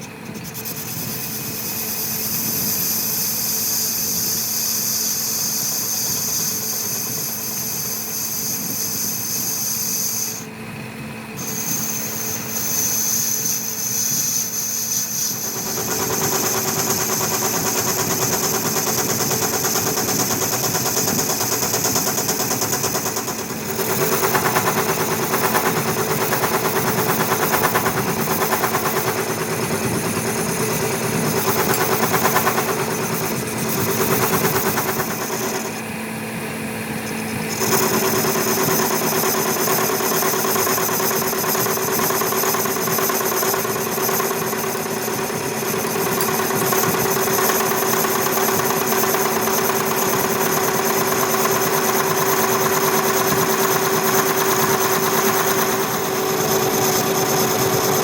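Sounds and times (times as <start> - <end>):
power tool humming and rattling: 0.0 - 58.0.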